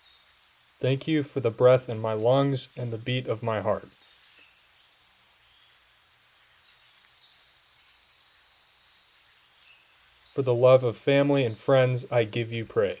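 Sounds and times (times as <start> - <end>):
faint hiss: 0.0 - 13.0
insects trilling: 0.0 - 13.0.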